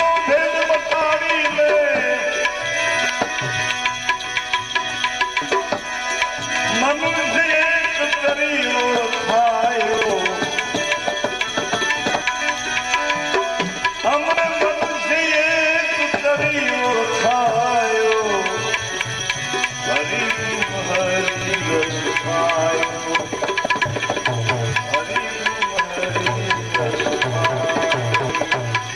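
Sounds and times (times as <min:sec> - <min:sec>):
tabla playing: 0:00.0 - 0:28.9.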